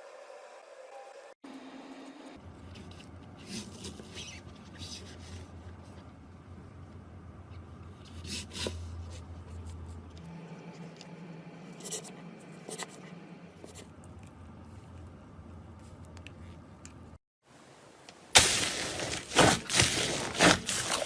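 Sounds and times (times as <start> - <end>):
low background hum: 0.6 - 21.0.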